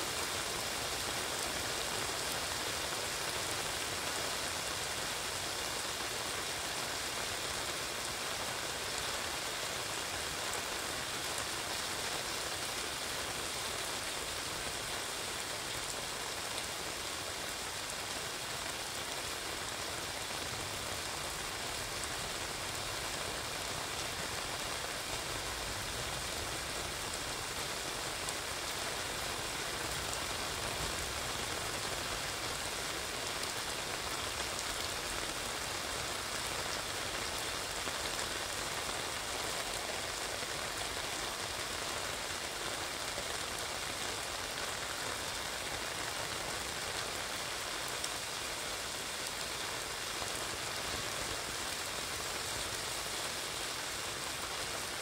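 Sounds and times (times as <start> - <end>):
steady rain on wet pavement: 0.0 - 55.0.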